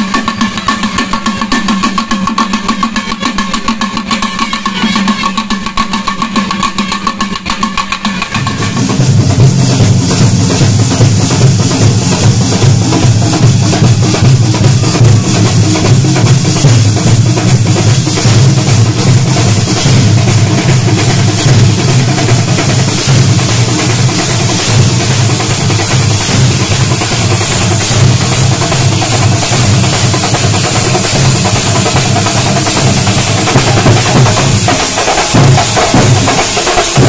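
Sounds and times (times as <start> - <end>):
metal hand cymbals: 0.0 - 37.0
pounding drums: 0.0 - 37.0.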